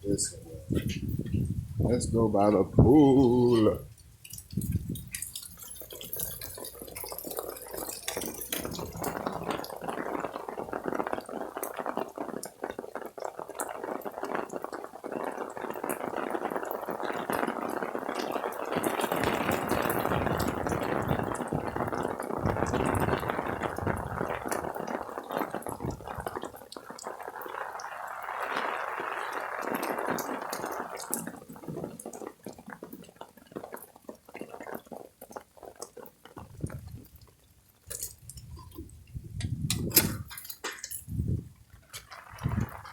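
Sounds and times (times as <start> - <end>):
rainwater running and splashing: 0.0 - 42.9
water drips and patters: 0.0 - 42.9.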